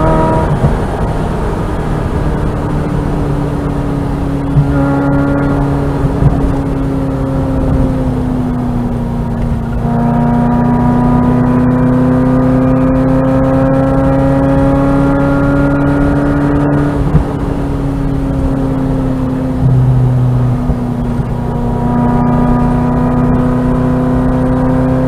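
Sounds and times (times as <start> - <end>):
car engine under load: 0.0 - 25.0.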